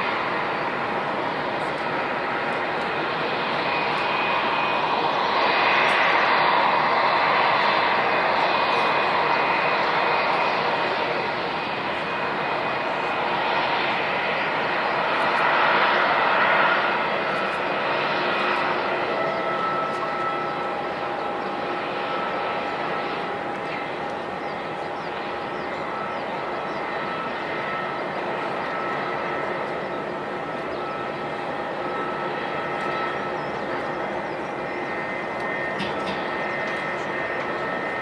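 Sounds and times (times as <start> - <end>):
jet engines whining and rushing: 0.0 - 38.0.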